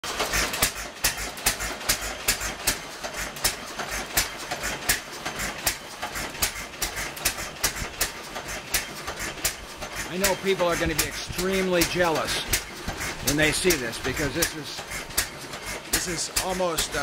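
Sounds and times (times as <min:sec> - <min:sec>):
single-cylinder engine pounding: 0:00.0 - 0:17.0.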